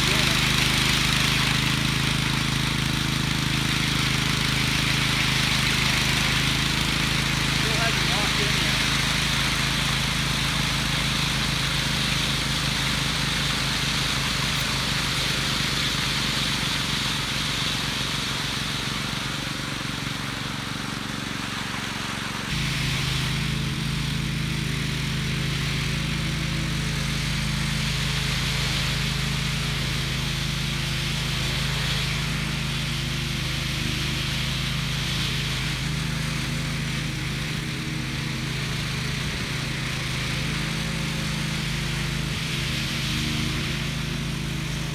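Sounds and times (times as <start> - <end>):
small gasoline engine running: 0.0 - 44.9.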